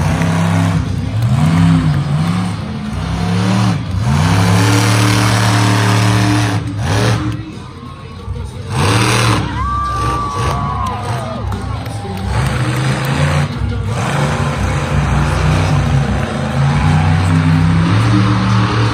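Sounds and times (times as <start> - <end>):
monster truck engine revving: 0.0 - 18.9.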